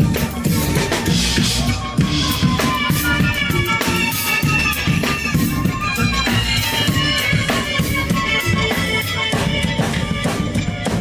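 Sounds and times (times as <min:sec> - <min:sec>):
drum-kit beat: 0:00.0 - 0:11.0
live band music: 0:00.0 - 0:11.0.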